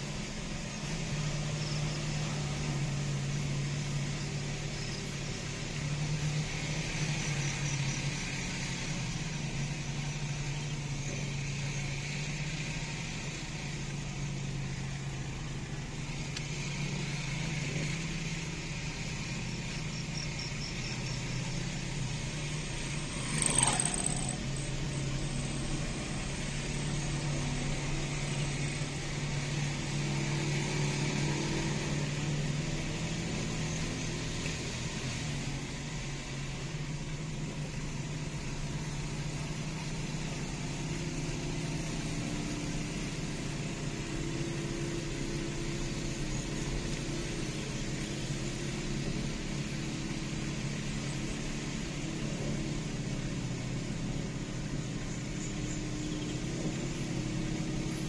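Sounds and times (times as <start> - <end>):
car engine hum: 0.0 - 58.0
road and tyre noise: 0.0 - 58.0.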